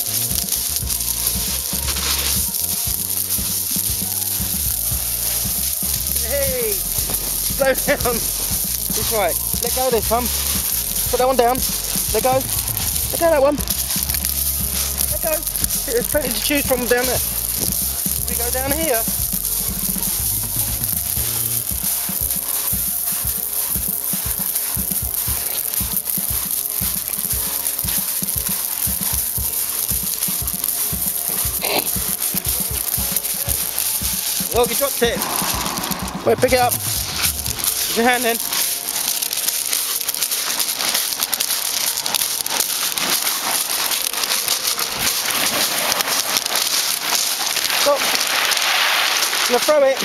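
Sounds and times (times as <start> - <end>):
footsteps crunching on shingle: 0.0 - 50.0
steady high hiss: 0.0 - 50.0.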